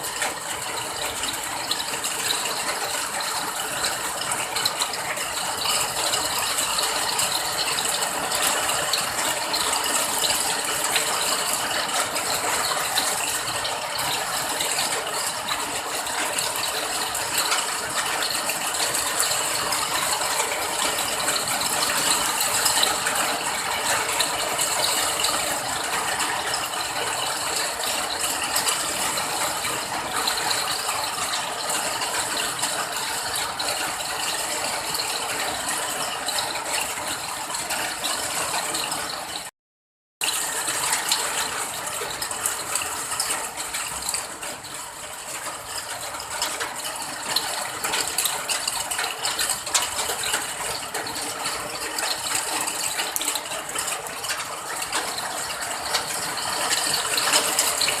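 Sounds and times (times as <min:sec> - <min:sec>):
rain pattering: 0:00.0 - 0:39.5, 0:40.2 - 0:58.0.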